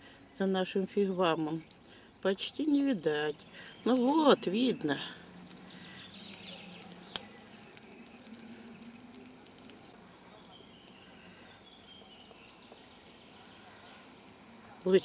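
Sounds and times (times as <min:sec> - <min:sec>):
distant birdsong: 0:00.0 - 0:15.0
faint crackles: 0:00.0 - 0:15.0.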